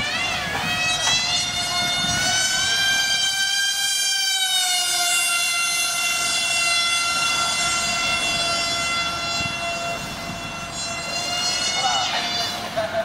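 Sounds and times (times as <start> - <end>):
model jet motor whine: 0.0 - 13.0.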